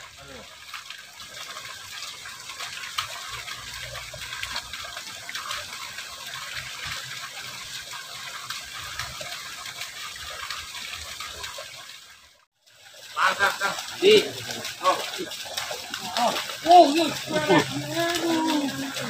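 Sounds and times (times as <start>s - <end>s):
water rushing along ditch: 0.0s - 19.0s.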